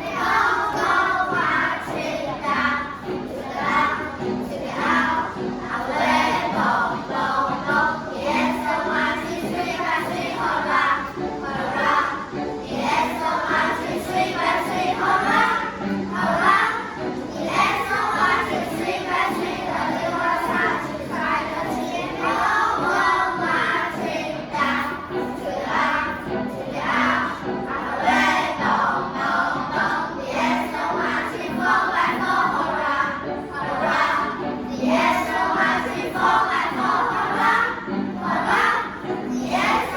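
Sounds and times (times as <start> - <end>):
children singing in chorus: 0.0 - 39.9.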